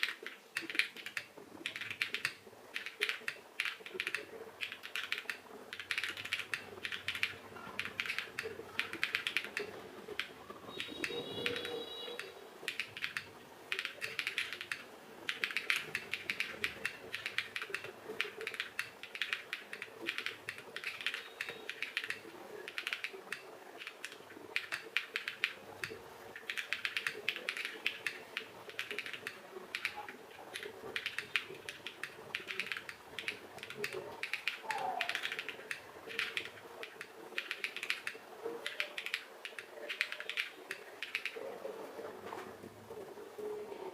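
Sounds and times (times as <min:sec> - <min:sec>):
typing on mechanical keyboard: 0:00.0 - 0:41.4.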